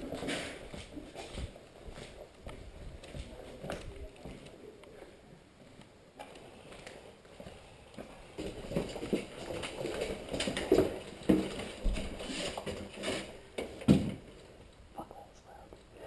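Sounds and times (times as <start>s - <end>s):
footsteps of players: 0.0s - 14.5s.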